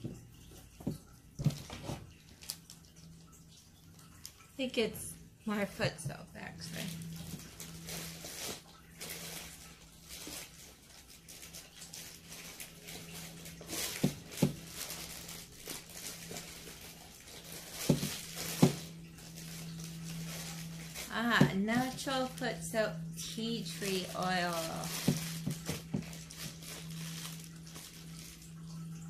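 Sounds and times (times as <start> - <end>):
plastic bag crinkling: 0.8 - 4.5, 6.4 - 29.0.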